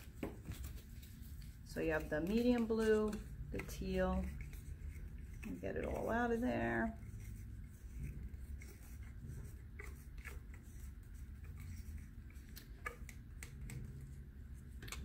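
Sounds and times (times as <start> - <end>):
low steady hum: 0.0 - 15.0
wooden stick scraping plastic cups: 0.0 - 15.0.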